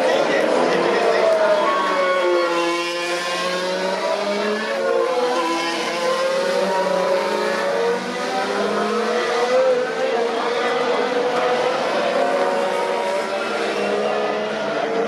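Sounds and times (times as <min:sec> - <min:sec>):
racing car engines accelerating: 0:00.0 - 0:15.0.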